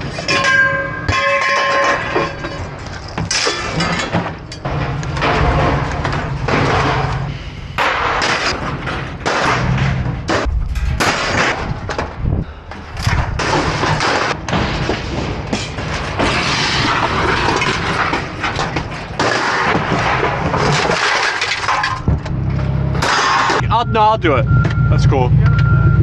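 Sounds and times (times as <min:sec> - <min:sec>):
scrap metal clattering and crashing: 0:00.0 - 0:23.6.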